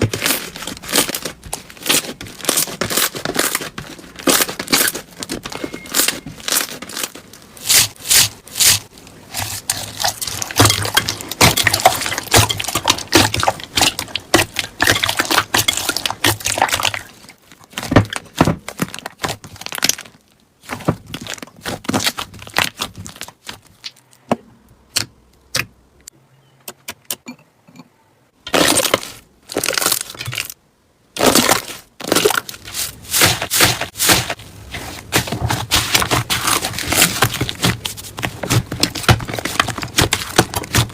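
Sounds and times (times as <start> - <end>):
slime crackling and popping: 0.0 - 24.0, 28.5 - 30.6, 31.2 - 40.9.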